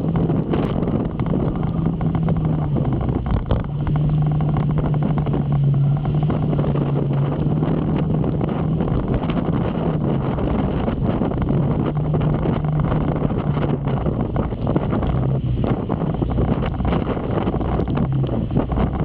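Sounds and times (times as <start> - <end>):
motorcycle engine running: 0.0 - 19.0
rain spattering on microphone: 0.0 - 19.0
wind rushing over microphone: 0.0 - 19.0.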